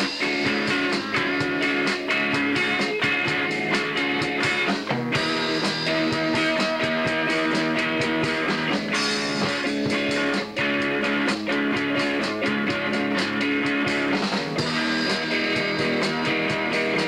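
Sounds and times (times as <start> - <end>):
drum kit with cymbals: 0.0 - 17.0
electric guitars ringing: 0.0 - 17.0.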